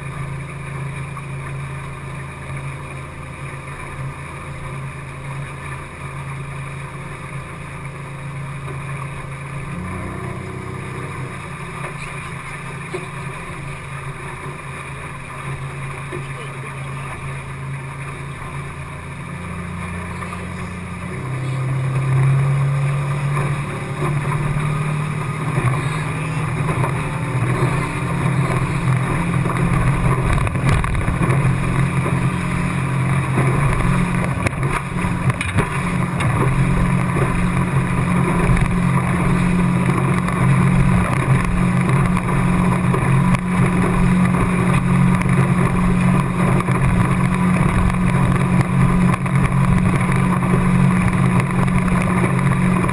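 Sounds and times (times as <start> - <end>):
outboard motor drone: 0.0 - 52.9
wind and water rushing: 0.0 - 52.9.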